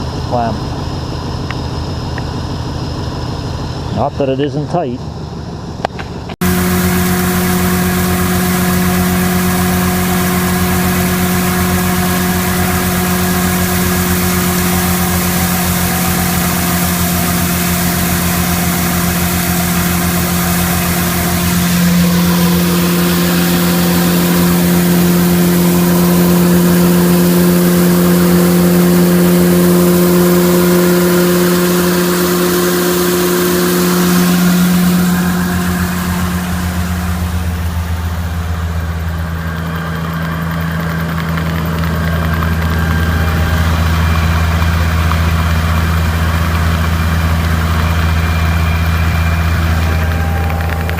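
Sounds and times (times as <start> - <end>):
car engine at high idle: 0.0 - 50.9.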